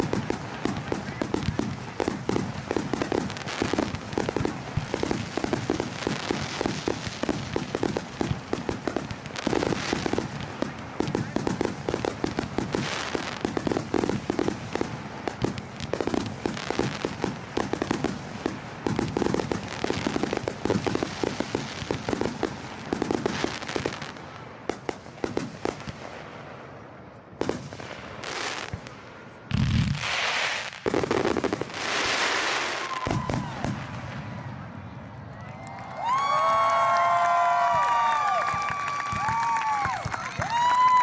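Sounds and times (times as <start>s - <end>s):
fireworks crackling pops: 0.0s - 26.4s, 27.4s - 41.0s
hissing firework bursts: 0.0s - 26.6s, 27.4s - 34.6s.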